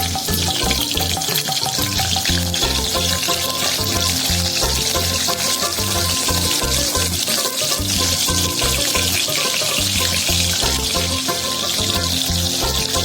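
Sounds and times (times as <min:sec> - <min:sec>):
batter sizzling in hot oil: 0:00.0 - 0:13.0
music with bass beat: 0:00.0 - 0:13.0.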